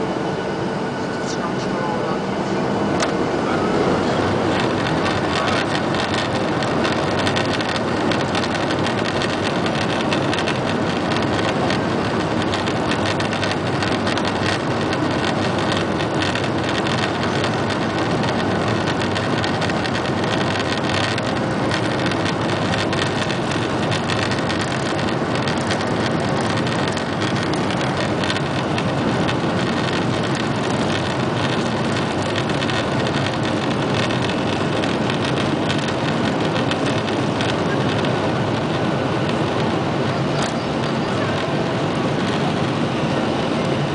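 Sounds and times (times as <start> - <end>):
airframe and runway rumble: 0.0 - 43.9
jet engine noise: 0.0 - 43.9.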